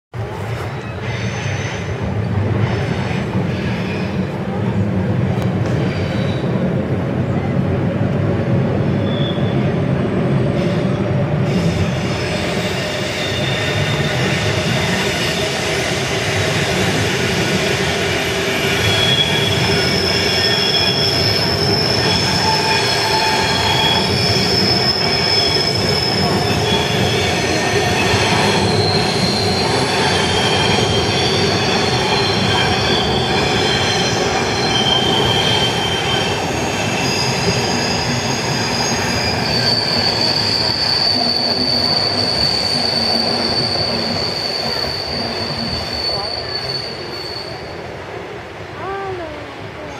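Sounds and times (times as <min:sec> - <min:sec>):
wheels squealing on rails: 0:00.2 - 0:07.5, 0:08.5 - 0:48.4
electric train rumbling past: 0:00.2 - 0:49.9.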